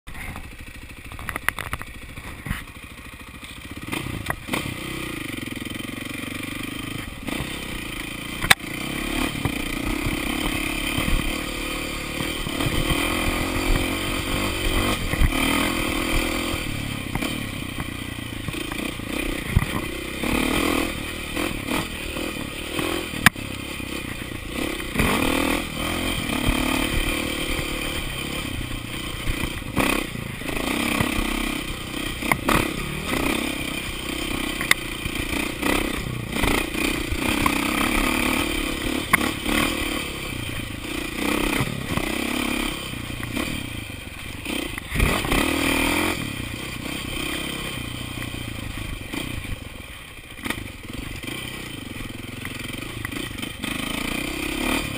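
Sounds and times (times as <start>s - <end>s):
motorcycle engine revving: 0.1s - 54.9s.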